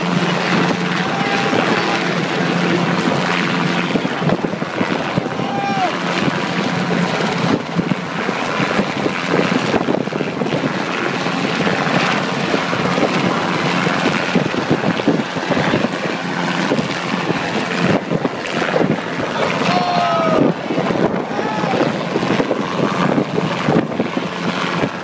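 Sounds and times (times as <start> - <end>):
helicopter hovering: 0.0 - 25.0
wind buffeting microphone: 0.0 - 25.0.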